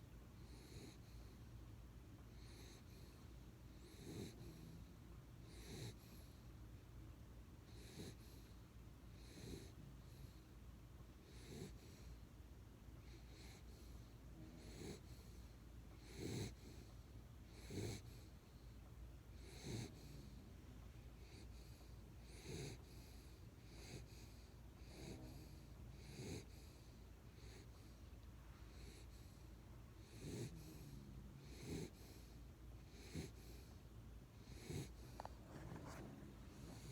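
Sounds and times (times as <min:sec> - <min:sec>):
pet snoring faintly: 0:00.4 - 0:01.6, 0:02.2 - 0:06.6, 0:07.6 - 0:12.4, 0:13.0 - 0:36.9.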